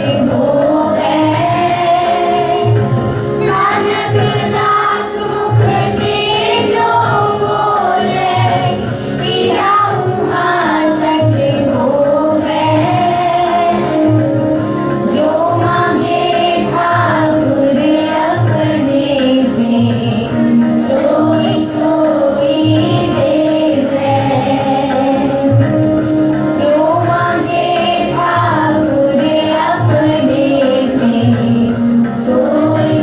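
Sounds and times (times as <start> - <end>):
group singing a hymn: 0.0 - 33.0
instrumental accompaniment with beat: 0.0 - 33.0.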